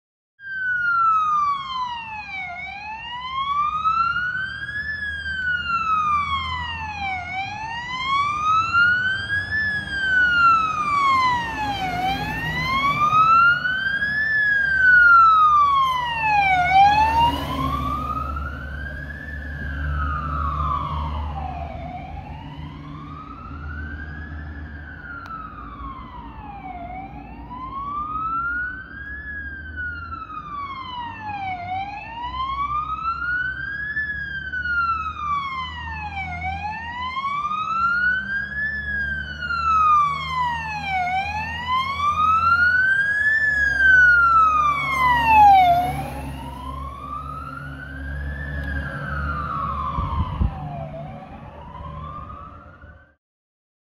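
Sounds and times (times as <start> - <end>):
fire engine siren wailing: 0.4 - 53.2.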